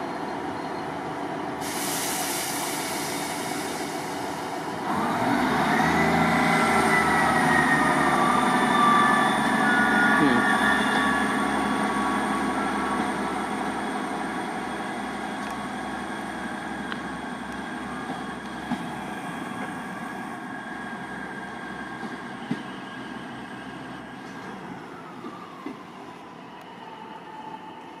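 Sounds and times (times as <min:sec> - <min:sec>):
diesel train pulling away: 0:00.0 - 0:28.0.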